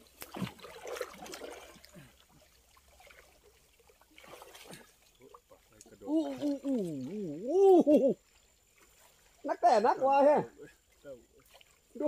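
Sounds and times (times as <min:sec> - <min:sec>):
small water splashes: 0:00.0 - 0:09.6, 0:10.5 - 0:12.0
water trickling and dripping: 0:00.0 - 0:12.0.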